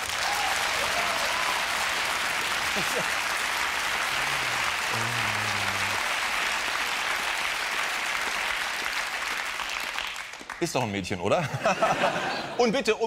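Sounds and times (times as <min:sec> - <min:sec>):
studio audience applauding: 0:00.0 - 0:11.0.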